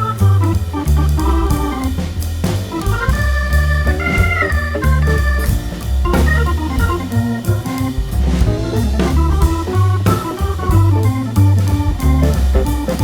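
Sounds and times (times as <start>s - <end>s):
heavy steady bass: 0.0s - 13.0s
organ melody: 0.0s - 13.0s.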